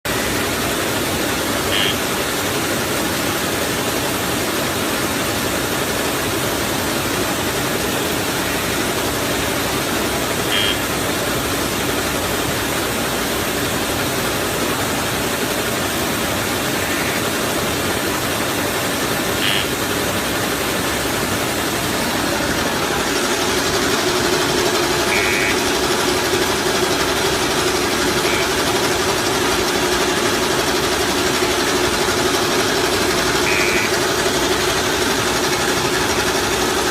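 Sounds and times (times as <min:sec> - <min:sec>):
steady hum: 0:00.0 - 0:36.9
packaging machine running: 0:00.1 - 0:36.9.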